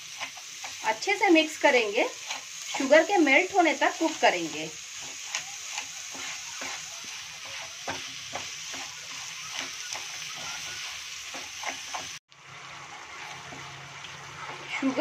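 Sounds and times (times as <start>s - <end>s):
wooden spatula scraping a pan: 0.0s - 12.2s, 12.8s - 15.0s
hot fat sizzling: 0.0s - 15.0s.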